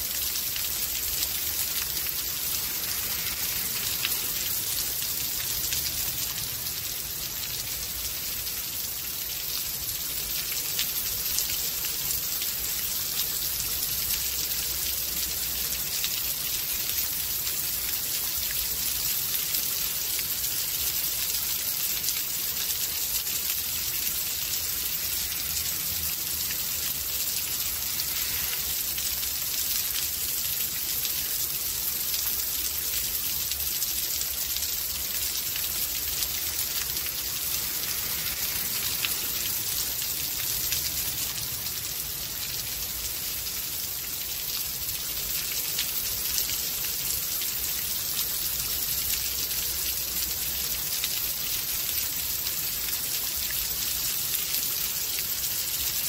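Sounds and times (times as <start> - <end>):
heavy rainfall hiss: 0.0 - 56.0.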